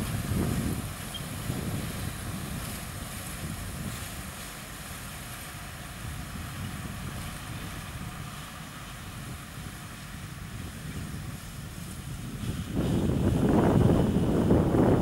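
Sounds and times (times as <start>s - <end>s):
distant diesel machinery rumbling: 0.0s - 15.0s
wind buffeting microphone: 0.0s - 15.0s.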